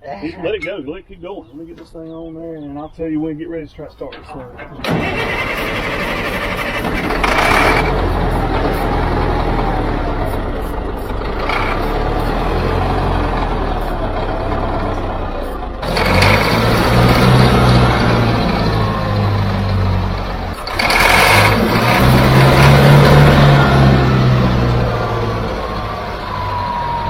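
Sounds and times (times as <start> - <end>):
loader engine running: 4.1 - 27.0.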